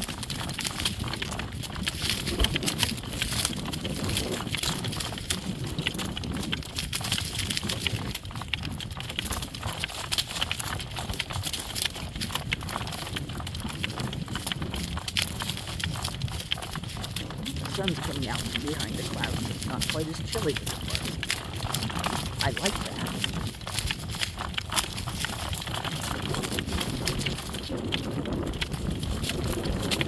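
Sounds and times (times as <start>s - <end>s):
horse hooves clip-clopping: 0.0s - 30.0s.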